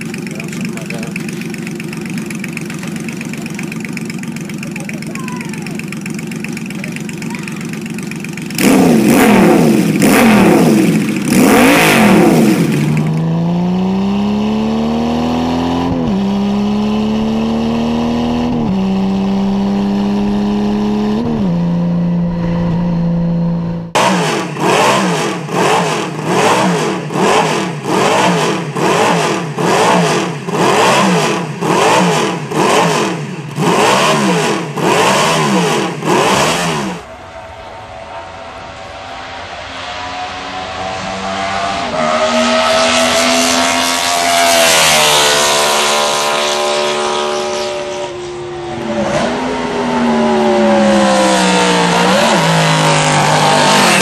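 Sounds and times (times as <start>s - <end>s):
motorcycle engine revving: 0.0s - 54.0s
motorcycle riding and upshifting: 0.0s - 54.0s
racing engine revved in sharp blips: 0.0s - 54.0s.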